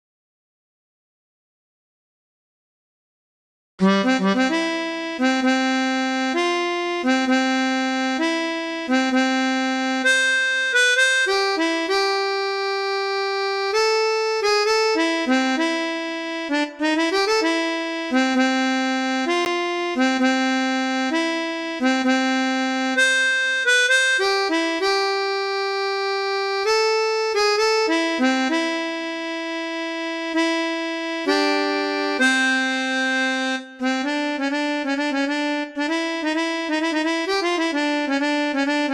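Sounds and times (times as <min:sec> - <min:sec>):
chromatic harmonica melody: 0:03.8 - 0:38.9.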